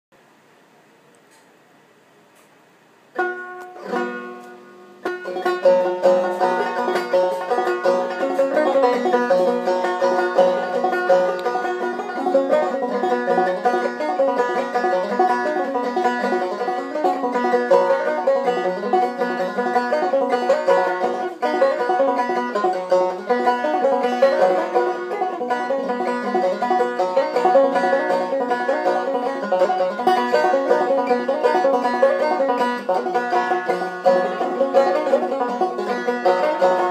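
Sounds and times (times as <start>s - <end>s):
banjo playing: 3.1s - 36.9s.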